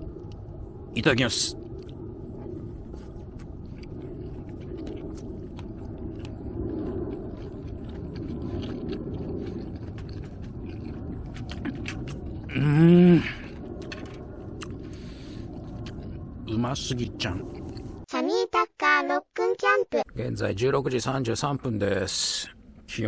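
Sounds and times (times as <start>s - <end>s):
low rumble of fire: 0.0s - 18.1s, 20.1s - 23.0s.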